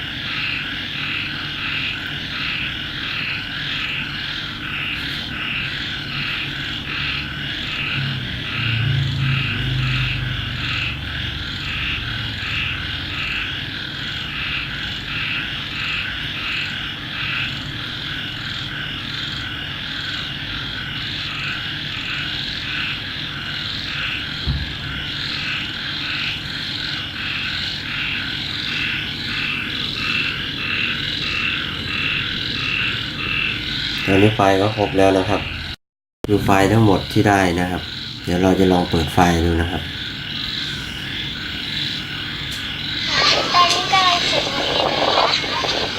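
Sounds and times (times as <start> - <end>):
chorus of rhythmic animal calls: 0.0 - 35.6, 36.6 - 45.9.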